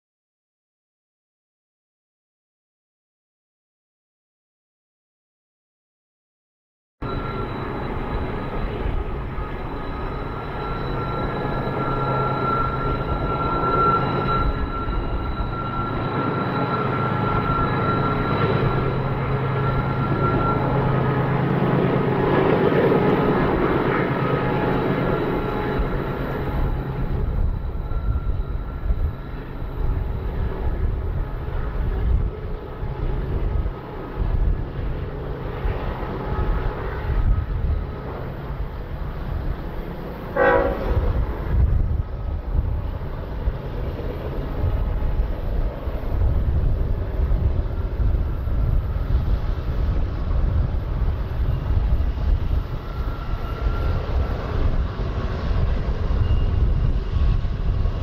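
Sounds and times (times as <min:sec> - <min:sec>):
distant diesel locomotives droning: 0:07.0 - 0:58.0
high whine: 0:07.0 - 0:58.0.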